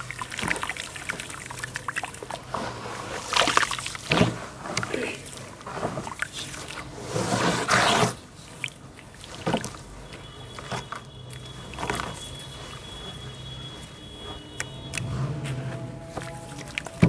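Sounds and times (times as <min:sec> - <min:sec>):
hands splashing in wet slurry: 0:00.0 - 0:12.8, 0:14.6 - 0:17.0.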